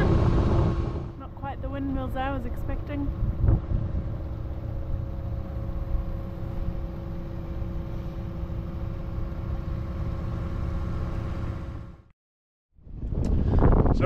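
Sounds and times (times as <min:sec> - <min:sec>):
boat engine humming: 0:00.0 - 0:12.1.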